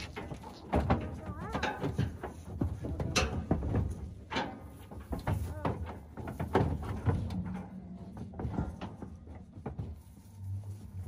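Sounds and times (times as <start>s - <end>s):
calves knocking in metal trailer: 0.0s - 10.1s.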